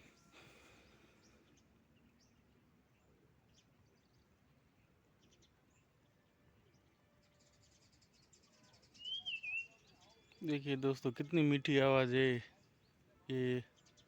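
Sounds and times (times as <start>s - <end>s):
distant bird chirps: 0.0s - 14.0s.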